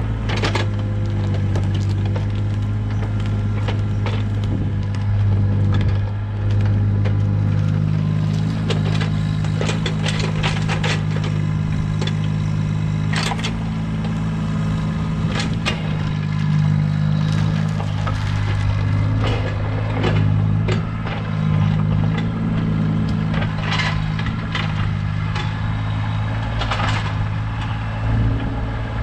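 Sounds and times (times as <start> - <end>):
engine running steadily: 0.0 - 29.0
knocks and clatters: 0.2 - 14.3, 15.1 - 28.6.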